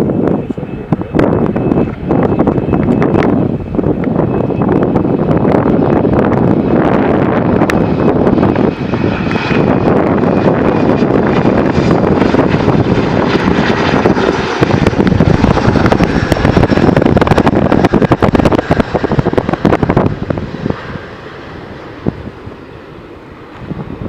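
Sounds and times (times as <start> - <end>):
jet airliner passing: 0.0 - 24.0
wind buffeting microphone: 0.0 - 24.0.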